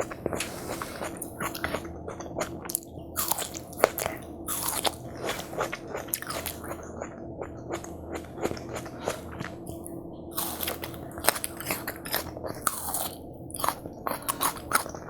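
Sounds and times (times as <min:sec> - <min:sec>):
crisp wet bites and chewing: 0:00.0 - 0:15.0
faint steady hum: 0:00.0 - 0:15.0.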